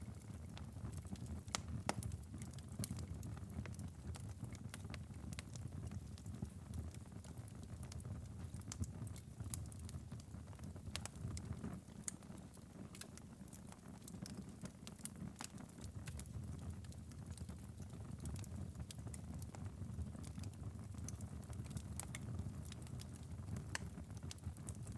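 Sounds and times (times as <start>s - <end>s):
wood fire pops and snaps: 0.1s - 24.9s.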